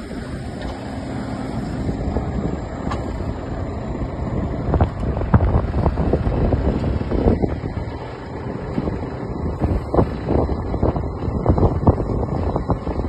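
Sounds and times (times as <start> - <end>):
diesel engine running: 0.0 - 13.0
wind buffeting microphone: 0.0 - 13.0.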